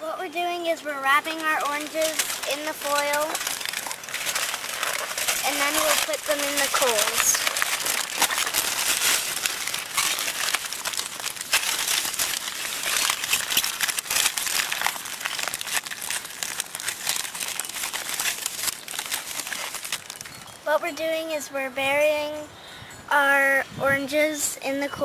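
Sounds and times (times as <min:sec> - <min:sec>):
aluminium foil crinkling: 0:00.0 - 0:21.1.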